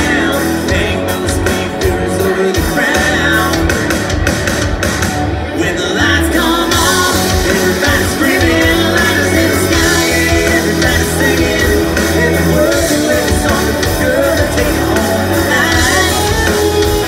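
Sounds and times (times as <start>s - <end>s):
sung vocals: 0.0s - 4.2s, 5.4s - 17.0s
drums: 0.0s - 17.0s
electric guitars: 0.0s - 17.0s.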